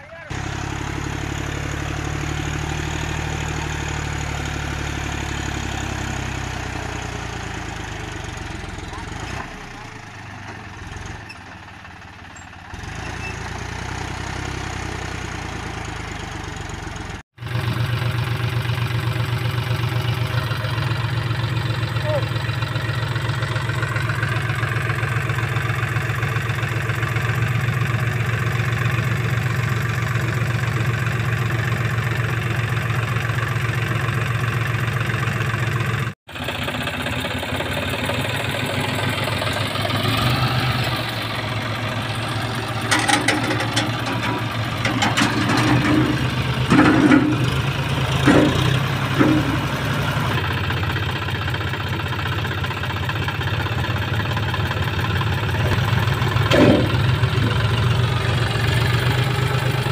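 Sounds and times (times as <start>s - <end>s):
tractor engine running at low revs: 0.0s - 59.9s.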